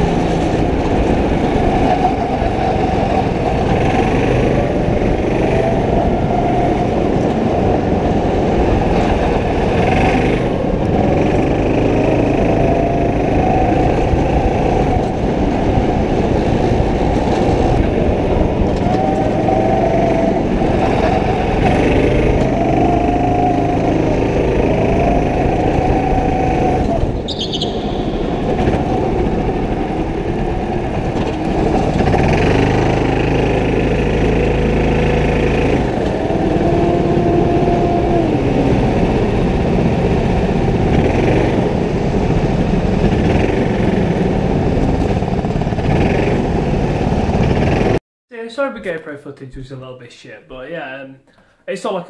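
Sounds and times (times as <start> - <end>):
go-kart engine revving: 0.0 - 48.0
heavy low rumble: 0.0 - 48.0.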